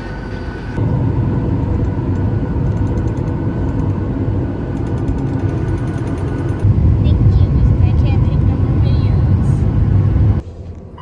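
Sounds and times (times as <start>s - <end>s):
vehicle rumble inside cabin: 0.0s - 11.0s.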